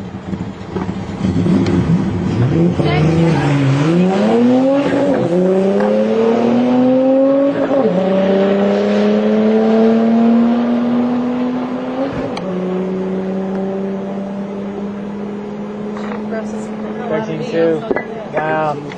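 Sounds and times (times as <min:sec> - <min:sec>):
car engine accelerating and shifting: 0:00.0 - 0:18.9.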